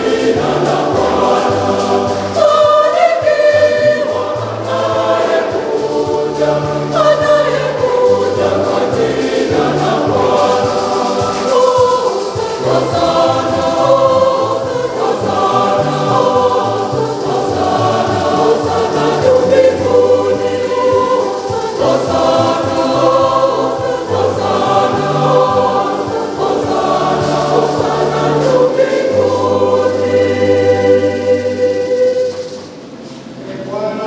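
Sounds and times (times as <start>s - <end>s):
choir and congregation singing: 0.0s - 34.0s.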